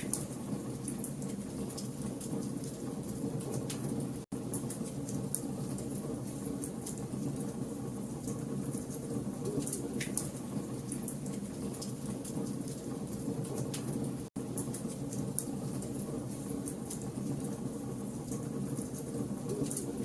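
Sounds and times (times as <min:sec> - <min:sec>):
low rumble of flames: 0:00.0 - 0:20.0.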